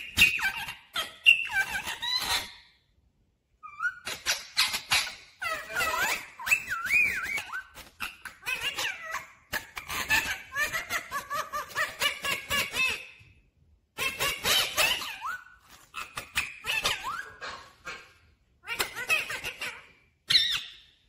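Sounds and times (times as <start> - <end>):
parakeet chattering: 0.0 - 2.7, 3.6 - 13.1, 14.0 - 20.8.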